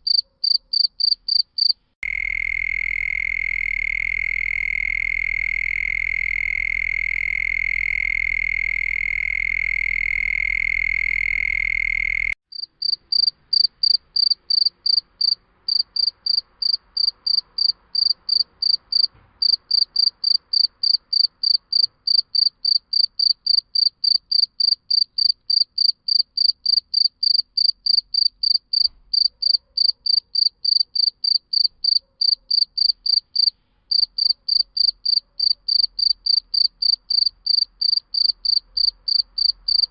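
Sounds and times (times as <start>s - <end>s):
cricket chirping: 0.0s - 39.9s
steady insect trill: 0.1s - 39.9s.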